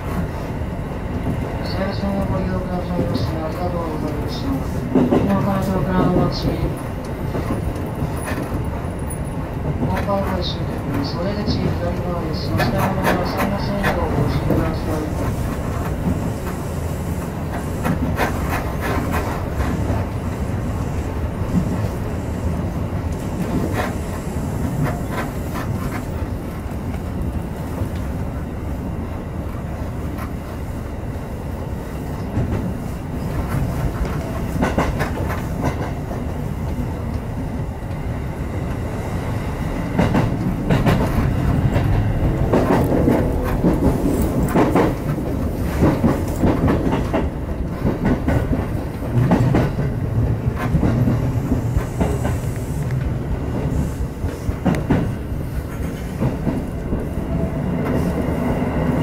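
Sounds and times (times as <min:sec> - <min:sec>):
electric train running rumble: 0:00.0 - 0:59.0.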